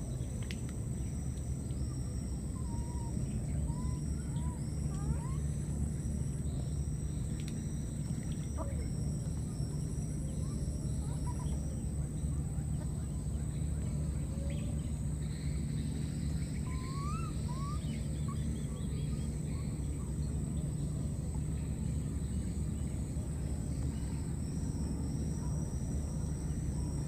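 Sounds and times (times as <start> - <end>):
steady low hum: 0.0 - 27.0
thin high whine: 0.0 - 27.0
faint bird chirps: 1.0 - 27.0.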